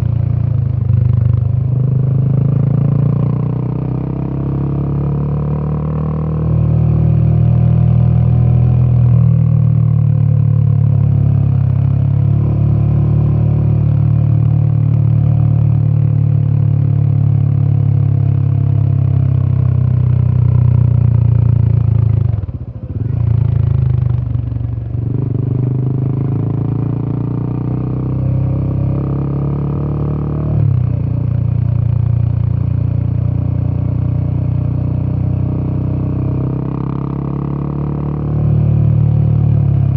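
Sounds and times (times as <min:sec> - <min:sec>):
motorcycle engine running: 0:07.0 - 0:39.9.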